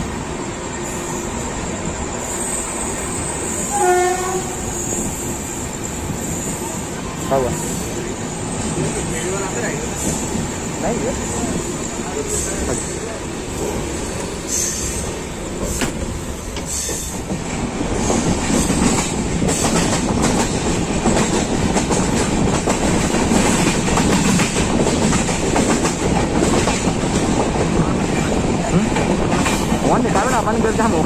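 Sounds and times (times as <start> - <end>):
train running noise: 0.0 - 31.0
train wheels clattering on rails: 2.3 - 31.0.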